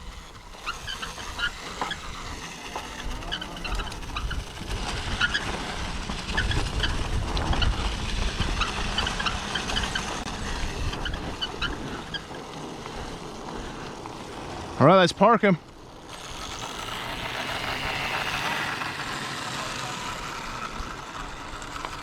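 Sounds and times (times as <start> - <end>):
rumbling wind: 0.0 - 22.0
tyre noise on trail: 0.0 - 22.0.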